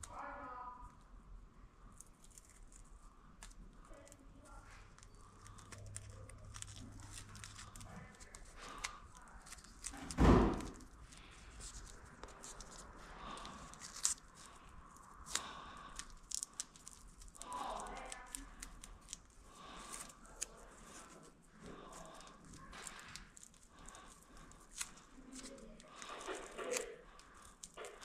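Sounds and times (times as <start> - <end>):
wire clicks and rustles: 1.8 - 28.0.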